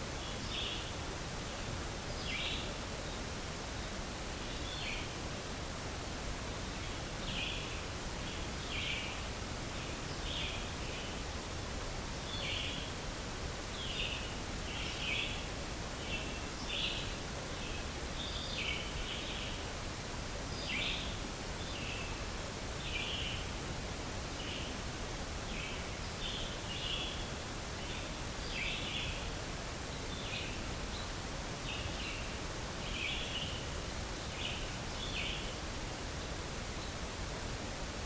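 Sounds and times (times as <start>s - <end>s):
outdoor hiss: 0.0s - 38.0s.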